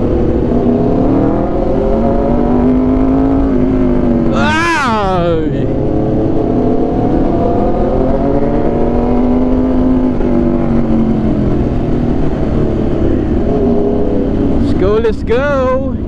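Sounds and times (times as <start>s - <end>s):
wind rush: 0.0s - 16.0s.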